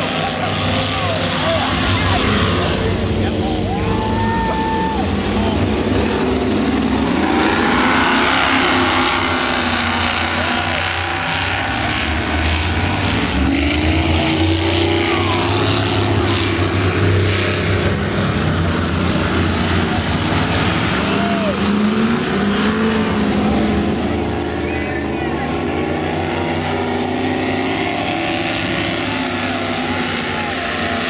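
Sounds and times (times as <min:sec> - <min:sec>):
powerboat engines droning: 0:00.0 - 0:31.0
water rushing: 0:00.0 - 0:31.0.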